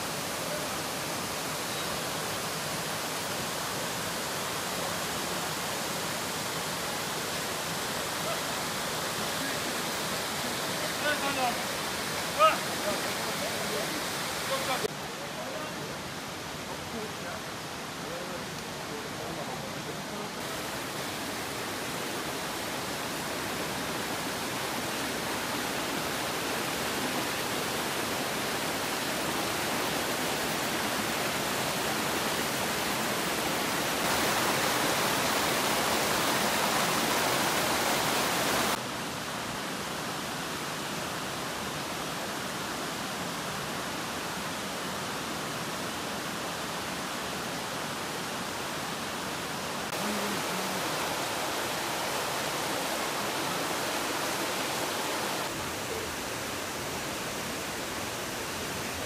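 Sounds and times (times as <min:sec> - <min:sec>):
water rushing over boulders: 0:00.0 - 0:59.0.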